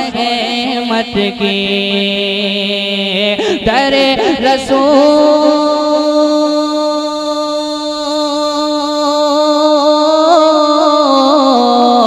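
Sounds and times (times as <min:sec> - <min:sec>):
man singing through microphone: 0:00.0 - 0:12.0.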